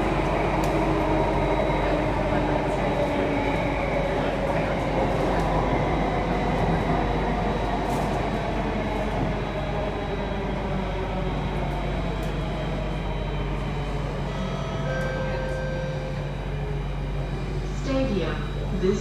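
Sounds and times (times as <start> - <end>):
train wheels rumbling on track: 0.0 - 18.8.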